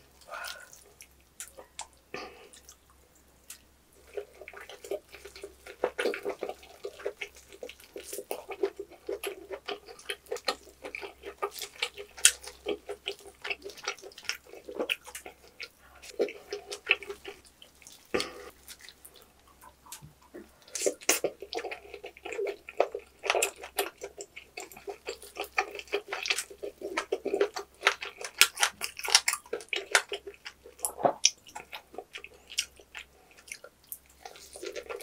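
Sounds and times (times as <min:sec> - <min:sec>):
wet chewing of meat: 0:00.0 - 0:35.0.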